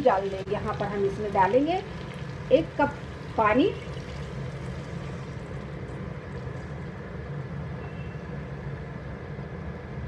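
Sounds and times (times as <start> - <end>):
curry cooking in a pot: 0.0 - 10.0
gas stove flame rumble: 0.0 - 10.0.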